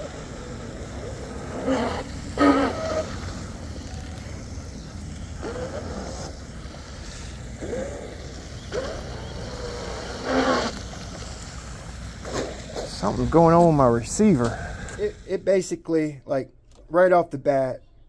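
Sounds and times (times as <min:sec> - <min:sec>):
water noise: 0:00.0 - 0:15.3
electric motor bursts rising in pitch: 0:00.0 - 0:15.4
wind: 0:00.0 - 0:18.0.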